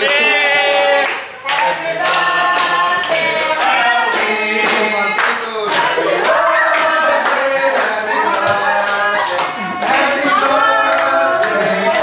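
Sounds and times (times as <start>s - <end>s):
group singing: 0.0s - 12.0s
people clapping in time: 0.0s - 12.0s.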